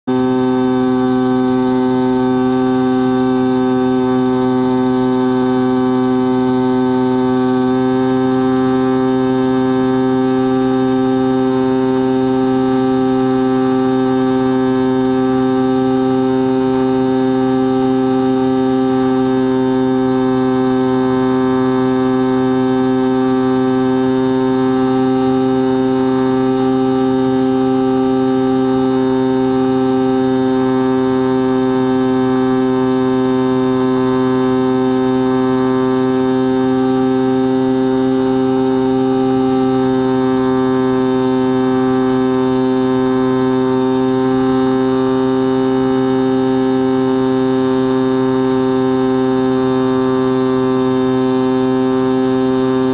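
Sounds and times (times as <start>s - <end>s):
electric motor propeller buzzing: 0.1s - 52.9s.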